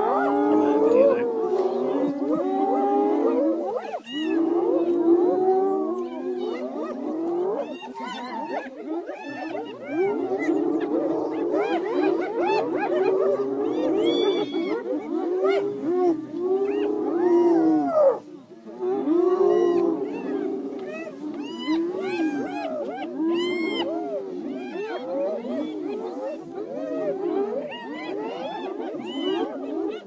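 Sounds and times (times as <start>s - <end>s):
many animals calling: 0.0s - 30.0s.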